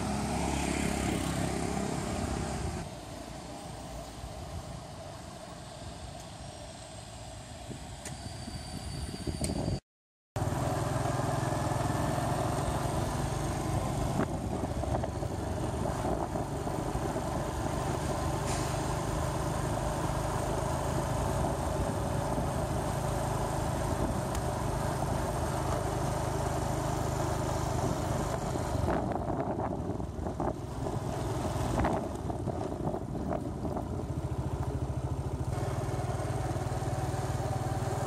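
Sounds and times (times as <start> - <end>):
vehicle engine hum: 0.0 - 8.6, 10.4 - 38.0
road noise: 0.0 - 9.8, 10.4 - 38.0.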